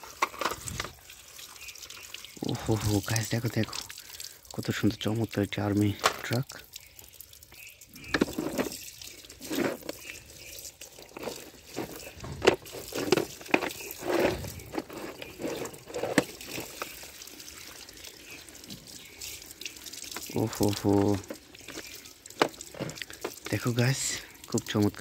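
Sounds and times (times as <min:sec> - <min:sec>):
water splashing on plastic: 0:00.0 - 0:25.0.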